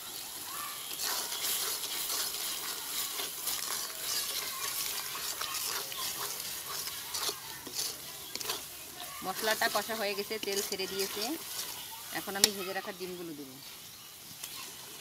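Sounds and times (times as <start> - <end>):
paste sizzling in oil: 0.0 - 15.0
metal spoon scraping pan: 0.8 - 13.2.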